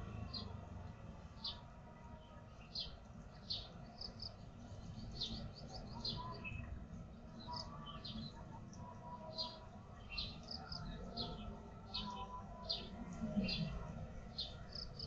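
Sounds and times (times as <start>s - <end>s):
small birds chirping: 1.2s - 15.0s.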